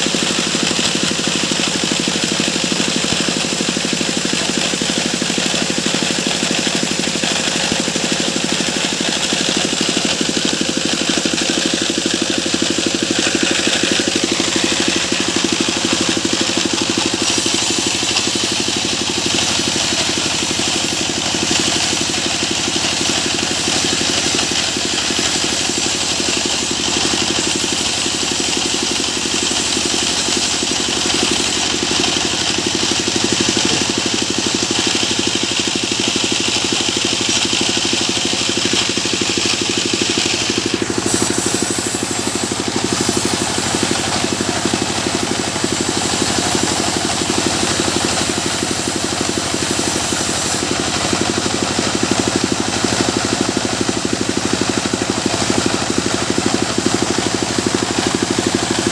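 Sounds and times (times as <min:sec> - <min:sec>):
sawmill machine running: 0:00.0 - 0:58.9.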